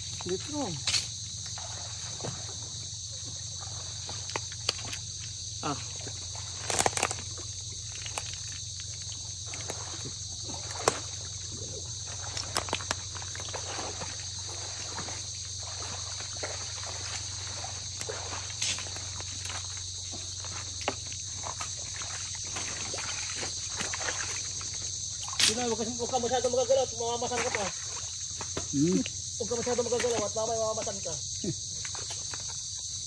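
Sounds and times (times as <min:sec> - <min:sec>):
footsteps sloshing through water and mud: 0:00.0 - 0:33.0
high-pitched insect chorus: 0:00.0 - 0:33.0.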